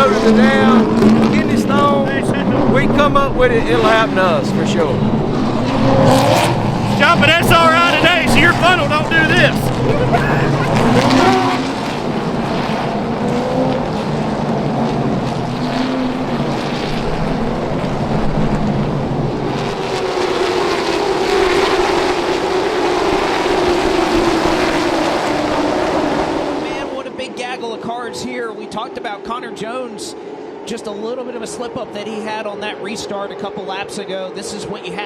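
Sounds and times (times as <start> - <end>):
race car engines: 0.0 - 35.0.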